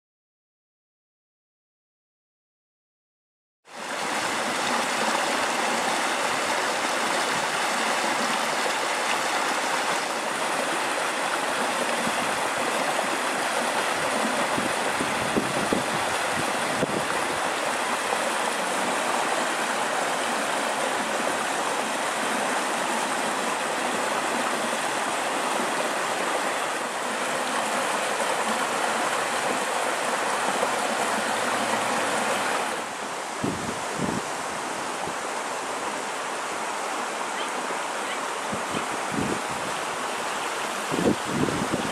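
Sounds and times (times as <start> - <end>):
stream babbling over rocks: 3.7 - 41.9.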